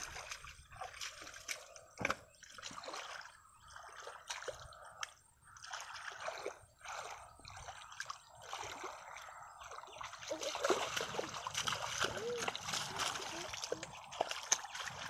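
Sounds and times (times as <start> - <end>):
hands squelching in wet mud: 0.0 - 15.0
water splashing: 0.0 - 15.0.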